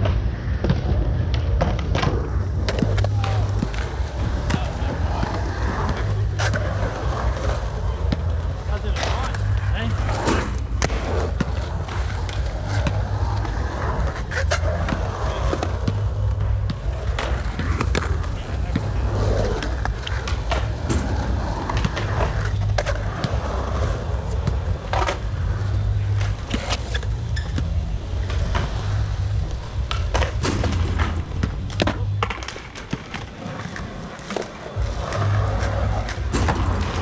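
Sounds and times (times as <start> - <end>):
skateboard clacks: 0.0 - 37.0
skateboard wheels rolling on concrete: 0.0 - 37.0.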